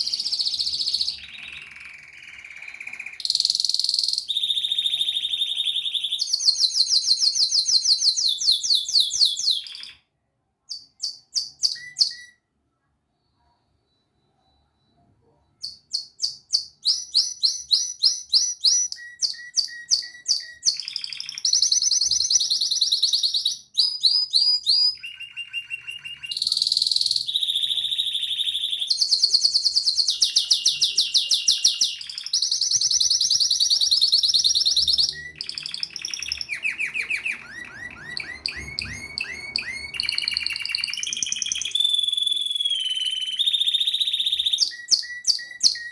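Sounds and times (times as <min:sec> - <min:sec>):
canary singing trills: 0:00.0 - 0:10.1, 0:10.7 - 0:12.5, 0:13.6 - 0:45.9.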